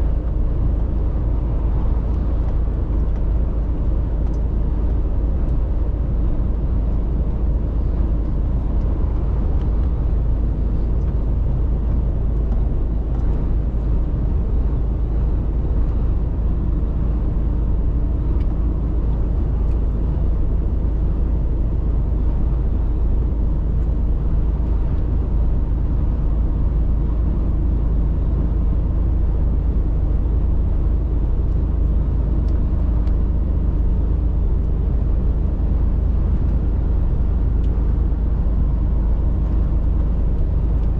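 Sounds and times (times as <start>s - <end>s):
truck engine and road noise: 0.0s - 40.9s.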